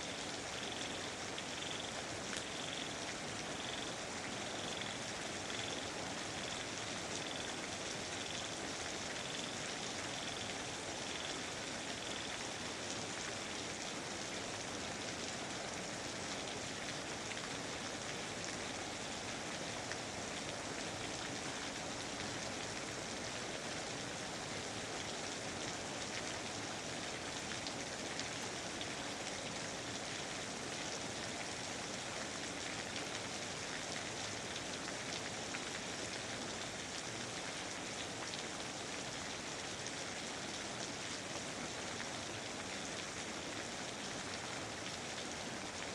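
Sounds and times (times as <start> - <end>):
rain falling on foliage: 0.0 - 45.9.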